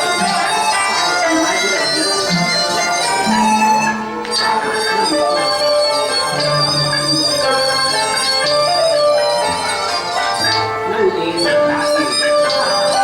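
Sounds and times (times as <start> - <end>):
opera music with bowed fiddles: 0.0 - 13.0.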